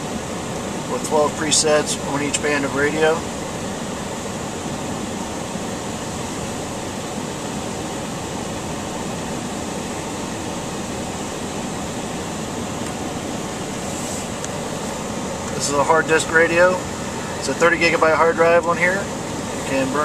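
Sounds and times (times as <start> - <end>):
blower fan rushing air: 0.0 - 20.0.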